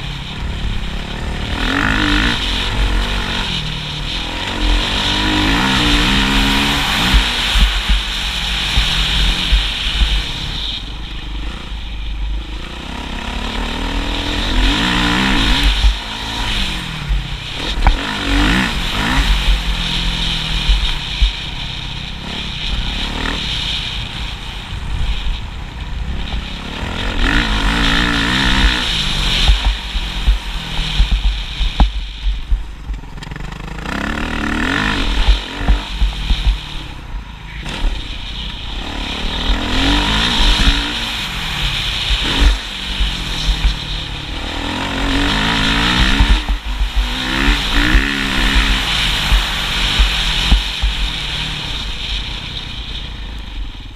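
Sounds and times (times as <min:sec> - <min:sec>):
constant deep rumble: 0:00.0 - 0:53.9
motorcycle engines revving: 0:00.0 - 0:53.9.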